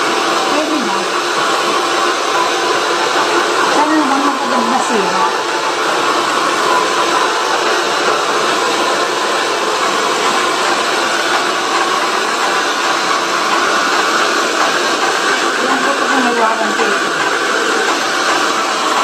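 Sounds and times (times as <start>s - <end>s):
hair dryer blowing air: 0.0s - 19.0s.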